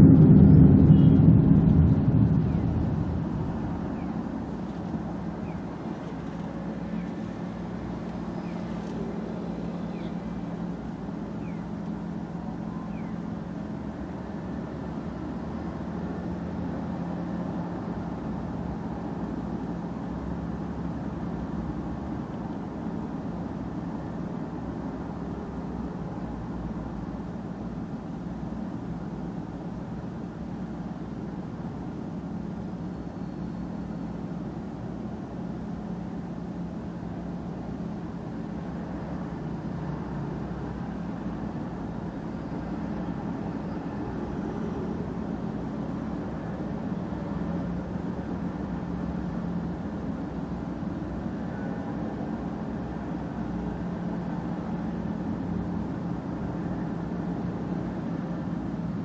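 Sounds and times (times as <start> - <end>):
car engine idling: 0.0 - 50.6
road traffic passing: 0.0 - 59.0.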